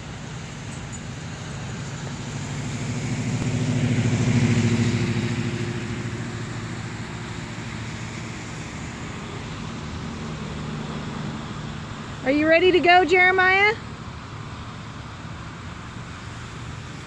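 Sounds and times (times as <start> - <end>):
car engine passing: 0.0 - 17.0
tyres hissing on wet road: 0.0 - 17.0.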